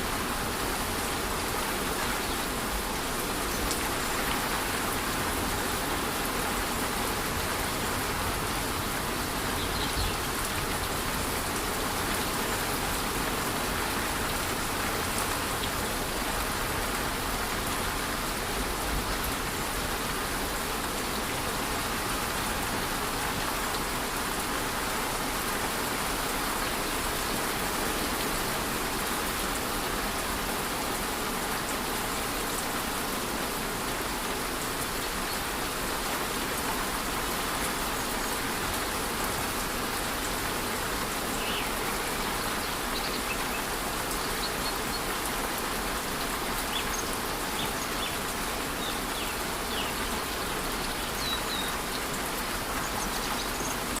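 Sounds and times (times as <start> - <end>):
rain on foliage: 0.0 - 54.0
waterfall rushing: 0.0 - 54.0.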